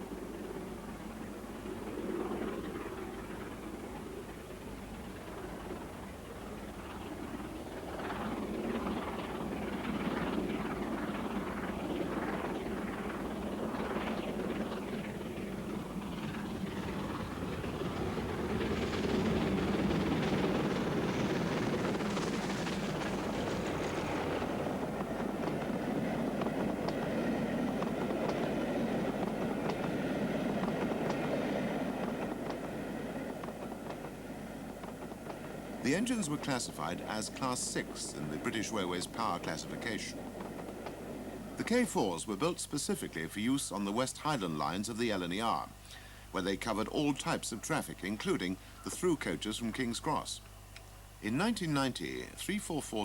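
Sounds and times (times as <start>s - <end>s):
steam locomotive exhaust beats: 0.0s - 44.5s
faint steady tones: 0.0s - 53.0s
rumble of train passing: 0.0s - 53.0s.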